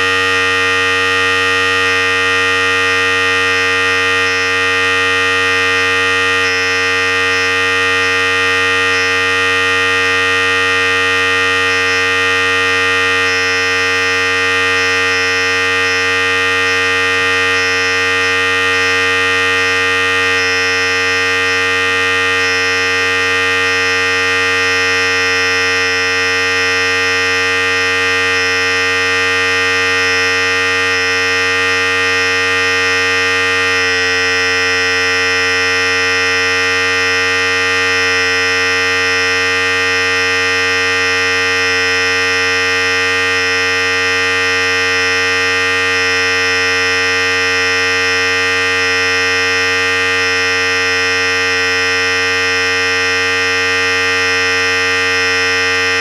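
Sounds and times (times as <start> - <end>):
electric hair clipper buzzing: 0.0 - 56.0.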